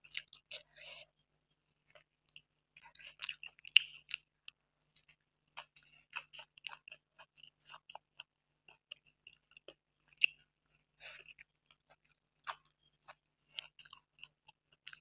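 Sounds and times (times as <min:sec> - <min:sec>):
crisp chewing crackles: 0:01.9 - 0:15.0.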